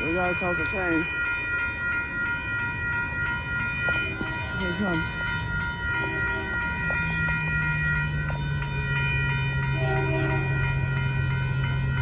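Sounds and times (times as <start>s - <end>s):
diesel locomotive drone: 0.0s - 12.0s
high ringing tones: 0.0s - 12.0s.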